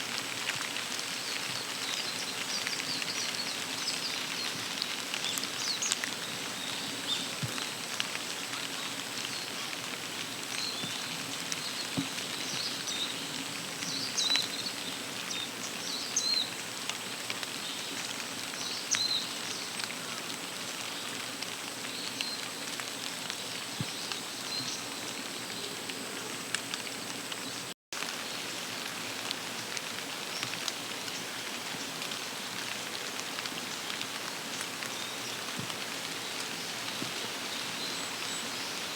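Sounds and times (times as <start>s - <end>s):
outdoor hiss: 0.0s - 38.9s.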